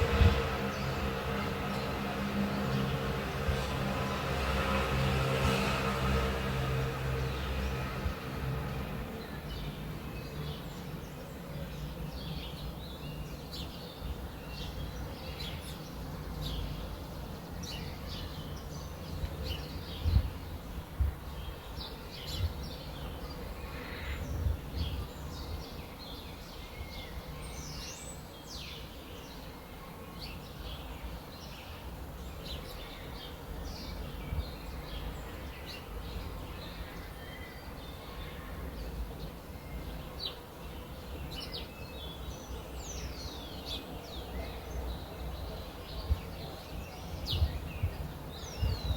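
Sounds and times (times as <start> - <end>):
small birds chirping: 7.1 - 48.9.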